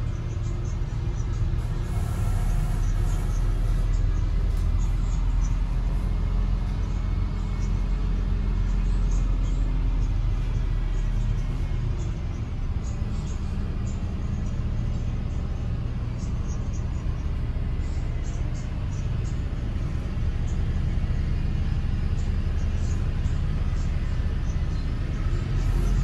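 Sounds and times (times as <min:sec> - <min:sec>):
bus engine rumble: 0:00.0 - 0:26.0
road noise: 0:00.0 - 0:26.0.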